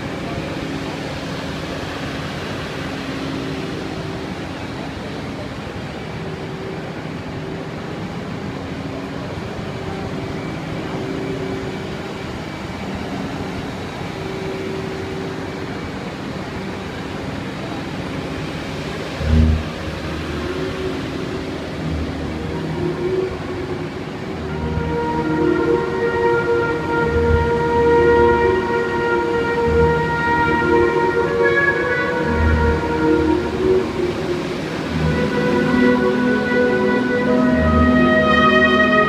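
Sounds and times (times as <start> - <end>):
diesel engine running: 0.0 - 39.0
hydraulic whine: 0.0 - 39.0.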